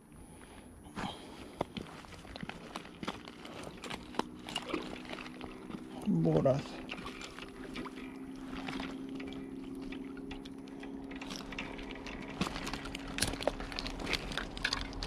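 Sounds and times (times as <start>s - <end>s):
low hum: 0.0s - 15.0s
small clicks and drips: 1.7s - 15.0s
water splashing: 2.2s - 15.0s.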